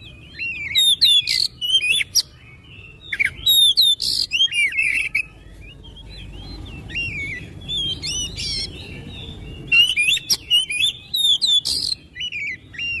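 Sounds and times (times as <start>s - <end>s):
bird singing whistled notes: 0.0s - 13.0s
sharp clicky bird calls: 0.0s - 13.0s.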